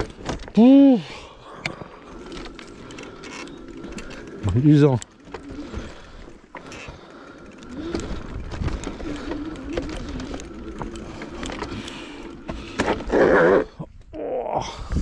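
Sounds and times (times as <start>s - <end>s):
bike rattling and knocking: 0.0s - 0.8s, 1.6s - 13.4s
bicycle tyres on stony trail: 0.0s - 13.8s.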